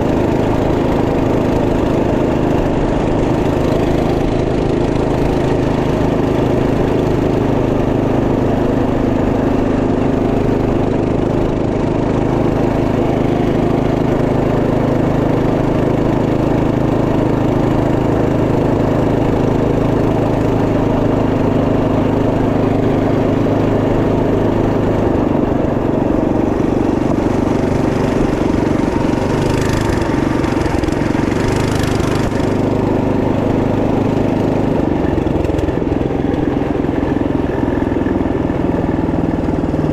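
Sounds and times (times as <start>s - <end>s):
minibike engine running: 0.0s - 39.9s.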